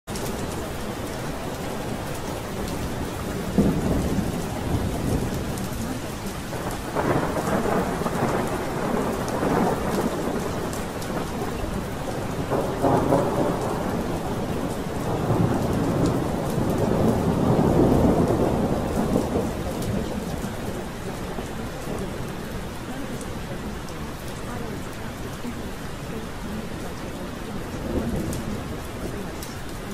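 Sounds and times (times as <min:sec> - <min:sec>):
steady rain: 0:00.0 - 0:29.9
thunder rolling: 0:01.4 - 0:24.0, 0:27.5 - 0:29.9.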